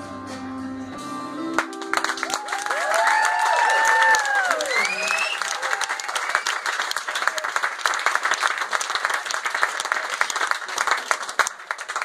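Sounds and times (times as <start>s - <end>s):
audience clapping: 1.5s - 12.0s.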